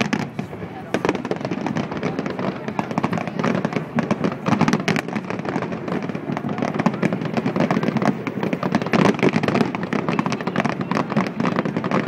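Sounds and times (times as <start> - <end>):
fireworks popping and banging: 0.0 - 12.0.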